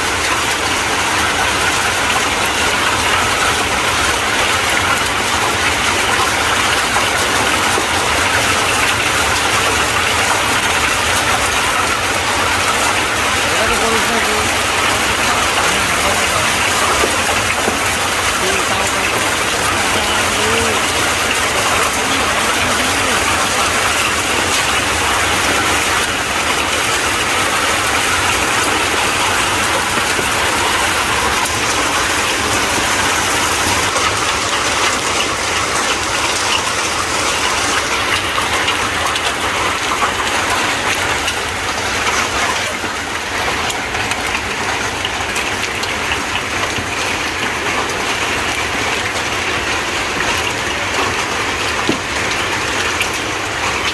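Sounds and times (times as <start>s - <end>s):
hail and rain falling hard: 0.0s - 53.9s.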